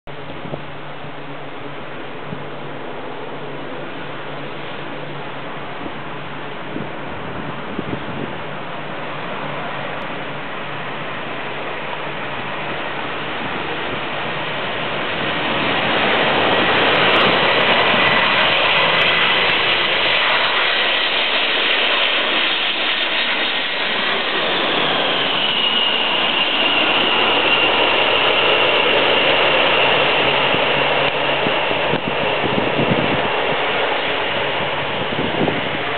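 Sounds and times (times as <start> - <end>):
jet airliner passing overhead: 0.1 - 35.9.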